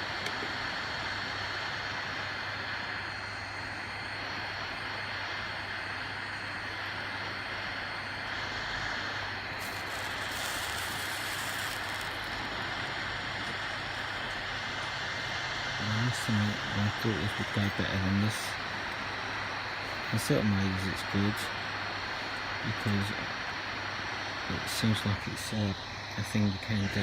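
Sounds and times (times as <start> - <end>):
hot-air blower hissing: 0.0 - 27.0.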